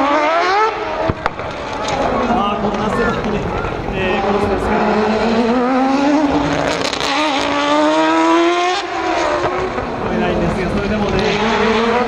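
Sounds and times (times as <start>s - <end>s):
rotary engine accelerating hard: 0.0s - 12.0s.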